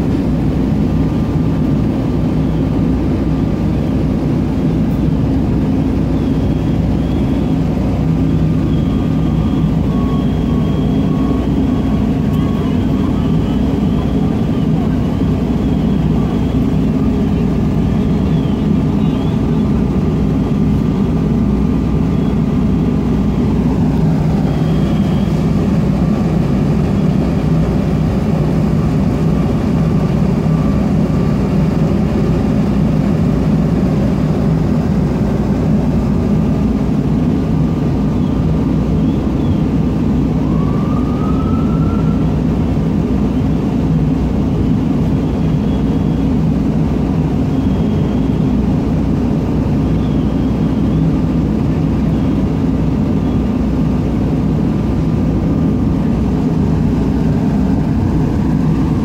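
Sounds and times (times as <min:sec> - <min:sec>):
fire truck engines rumbling: 0:00.0 - 0:59.0.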